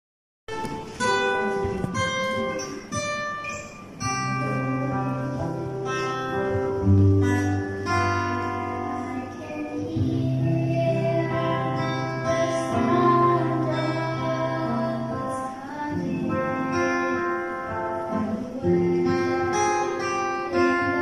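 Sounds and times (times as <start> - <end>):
acoustic guitar playing a hymn: 0.5 - 21.0.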